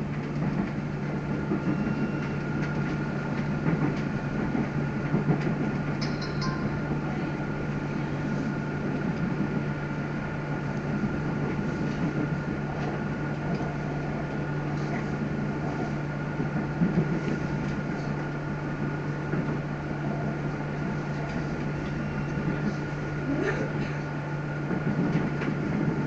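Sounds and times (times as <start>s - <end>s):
train interior hum: 0.0s - 26.0s.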